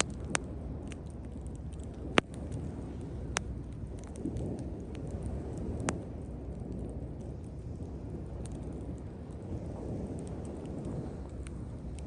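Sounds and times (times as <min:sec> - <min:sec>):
bonfire crackling and popping: 0:00.0 - 0:12.0
low rush of fire: 0:00.0 - 0:12.0.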